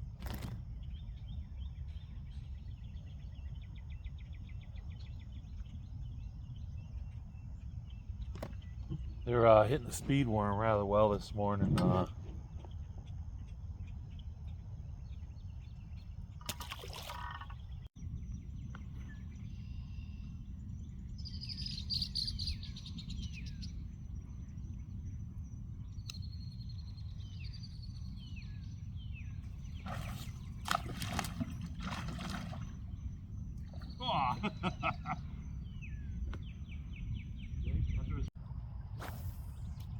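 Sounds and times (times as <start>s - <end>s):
birds chirping: 0.2s - 38.4s
low outdoor rumble: 0.7s - 16.4s, 17.6s - 39.0s.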